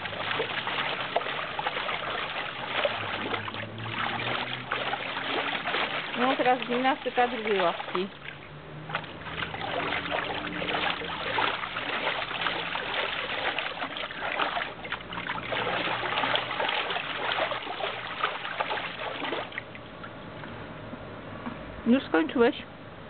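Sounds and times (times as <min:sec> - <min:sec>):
water splashing in paddling pool: 0:00.0 - 0:20.7.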